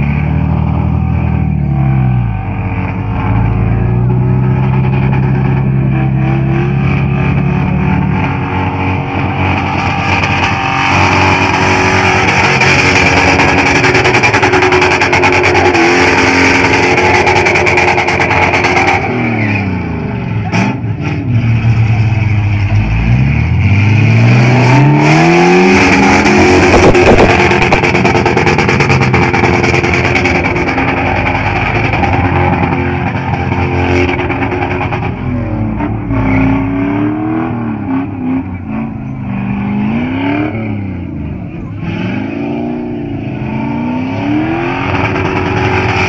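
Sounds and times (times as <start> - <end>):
car engine revving hard: 0.0 - 46.0.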